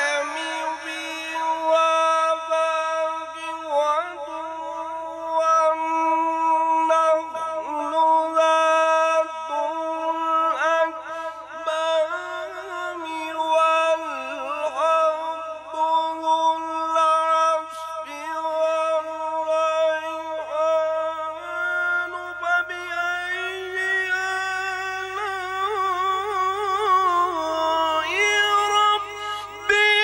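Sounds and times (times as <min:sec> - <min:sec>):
man reciting melodically: 0:00.0 - 0:30.0.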